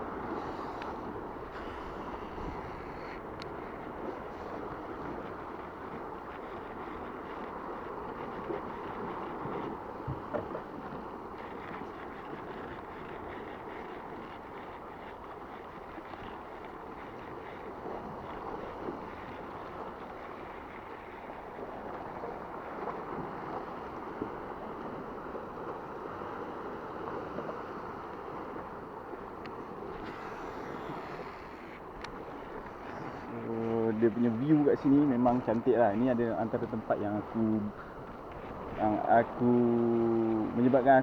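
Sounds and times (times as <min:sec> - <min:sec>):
sea water lapping around kayak: 0:00.0 - 0:41.0
wind on microphone: 0:00.0 - 0:41.0.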